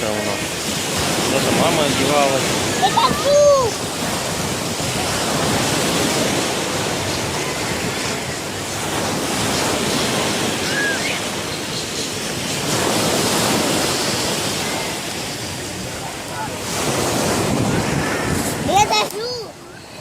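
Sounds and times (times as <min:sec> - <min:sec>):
sea waves washing onto beach: 0:00.0 - 0:20.0.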